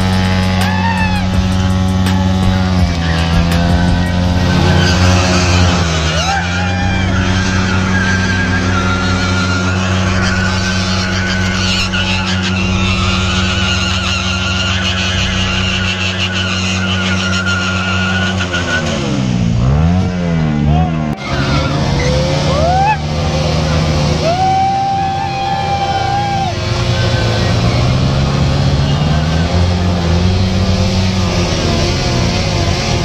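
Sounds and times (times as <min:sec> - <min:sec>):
motorcycle engines revving: 0:00.0 - 0:33.0
tyre squealing: 0:00.0 - 0:33.0.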